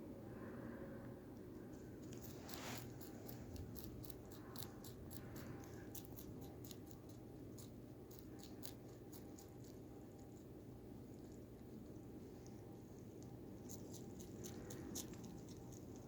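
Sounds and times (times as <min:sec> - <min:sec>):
rabbit chewing crunchily: 0:01.3 - 0:16.0.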